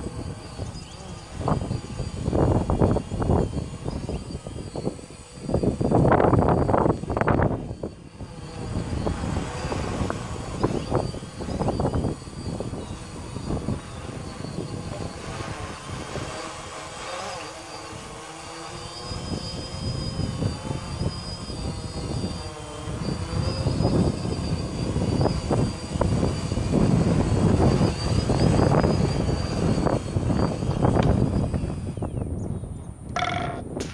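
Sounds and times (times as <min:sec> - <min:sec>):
drone propellers whining: 0:00.0 - 0:33.9.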